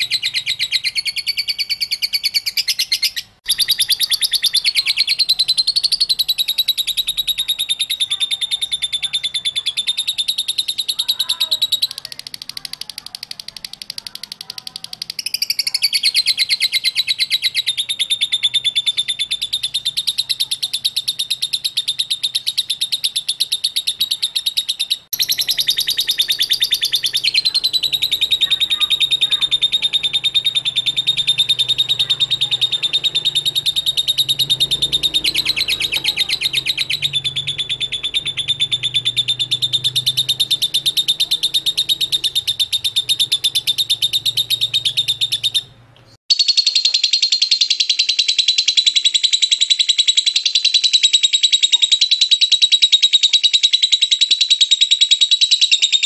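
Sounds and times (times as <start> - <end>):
lovebird rapid chatter: 0.0 - 56.0.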